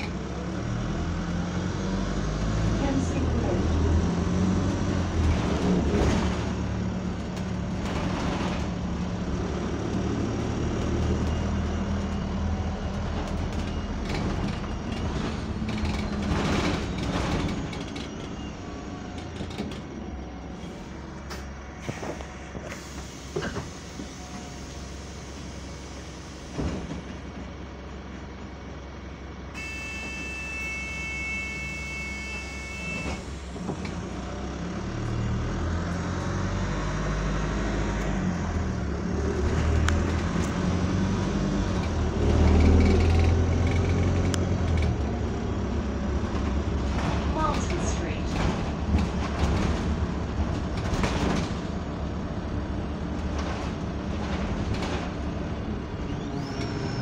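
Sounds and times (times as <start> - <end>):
bus engine drone: 0.0 - 57.0.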